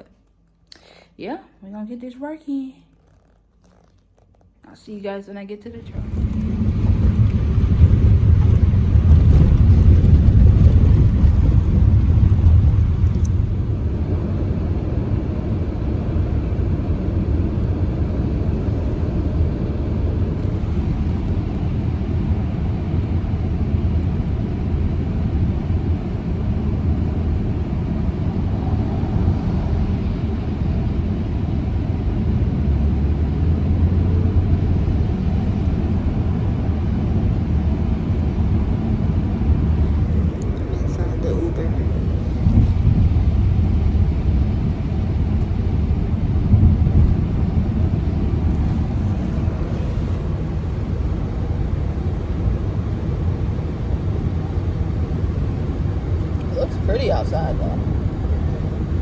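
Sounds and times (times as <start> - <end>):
car road and engine rumble: 3.2 - 59.0.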